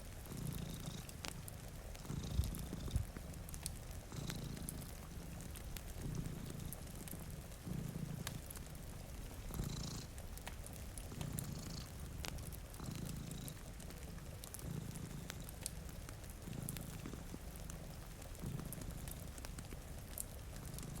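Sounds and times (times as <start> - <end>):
cat purring: 0.0 - 21.0
faint hiss of rain: 0.0 - 21.0
fire crackling: 0.0 - 21.0.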